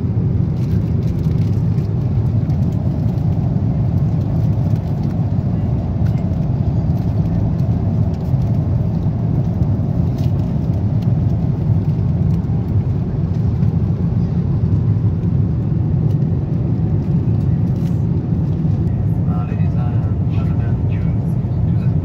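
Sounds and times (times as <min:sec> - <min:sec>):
aircraft cabin rumble: 0:00.0 - 0:22.0.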